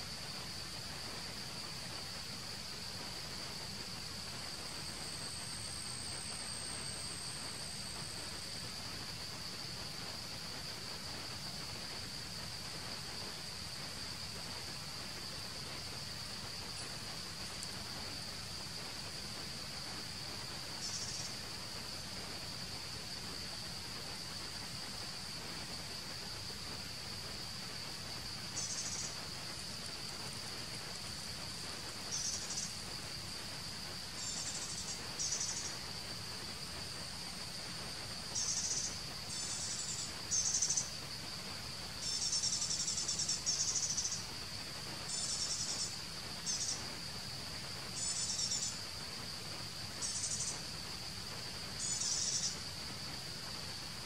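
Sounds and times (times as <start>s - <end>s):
buzzy insect call bursts: 0.0s - 54.0s
insects droning: 0.0s - 54.0s.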